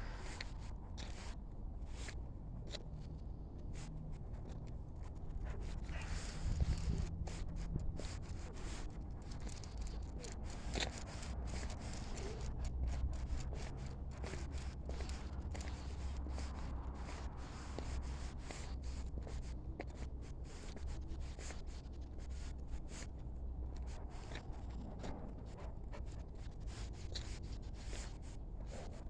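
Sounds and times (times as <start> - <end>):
wind rumble on microphone: 0.0 - 29.0.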